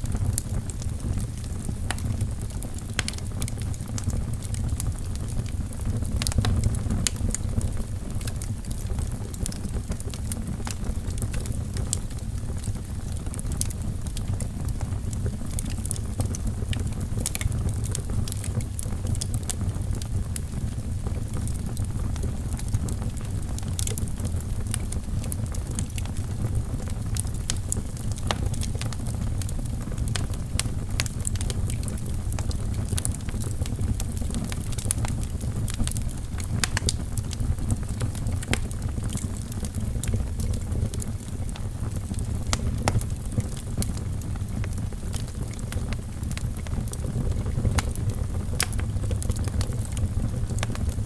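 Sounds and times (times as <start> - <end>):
fire flames rumbling: 0.0 - 51.0
logs crackling and popping: 0.0 - 51.0.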